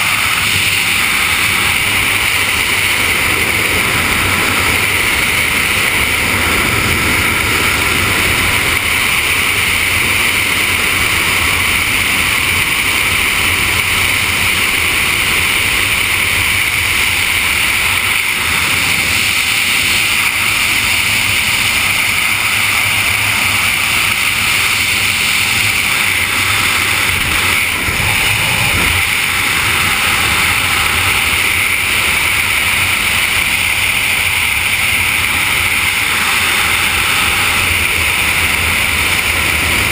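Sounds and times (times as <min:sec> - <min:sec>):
wind roar on microphone: 0:00.0 - 0:39.9.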